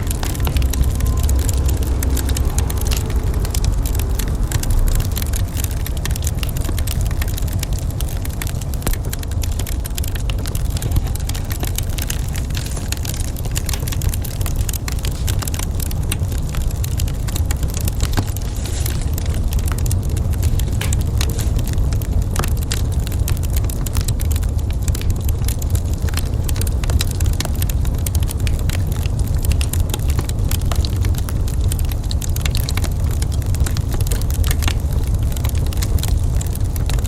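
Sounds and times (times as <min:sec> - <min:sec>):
low rumble of fire: 0:00.0 - 0:37.0
wood fire crackling: 0:00.0 - 0:37.0.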